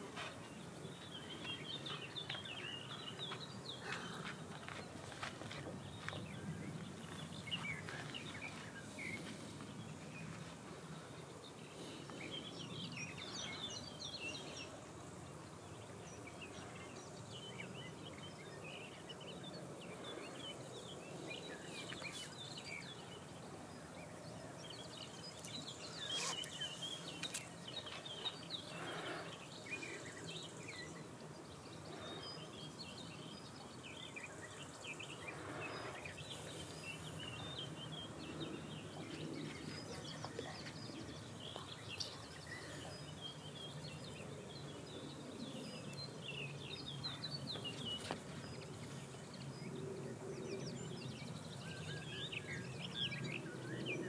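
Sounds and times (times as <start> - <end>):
low background noise: 0.0 - 54.0
small birds chirping: 0.0 - 54.0.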